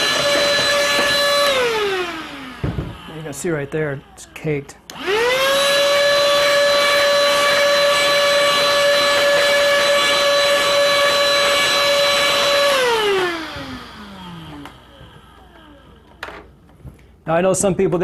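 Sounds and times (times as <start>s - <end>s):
fan motor whining: 0.0s - 17.0s.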